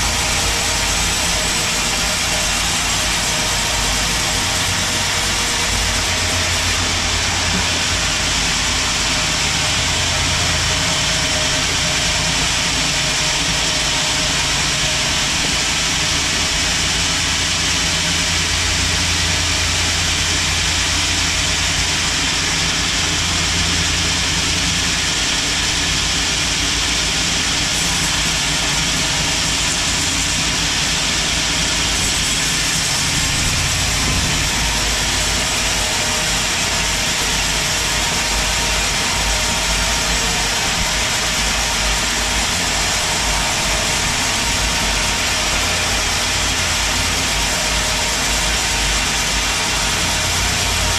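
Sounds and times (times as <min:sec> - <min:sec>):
band saw and engine running: 0:00.0 - 0:50.9.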